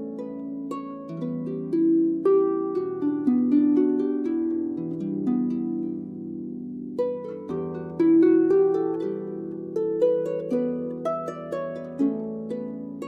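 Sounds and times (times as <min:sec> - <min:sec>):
harp playing slow melody: 0:00.0 - 0:13.0.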